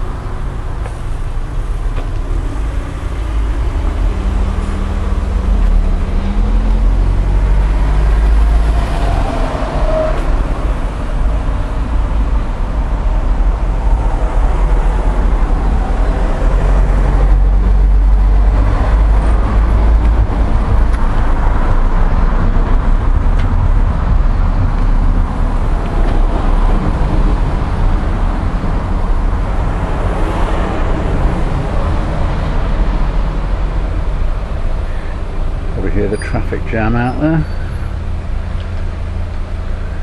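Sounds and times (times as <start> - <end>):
traffic jam rumble: 0.0 - 40.0.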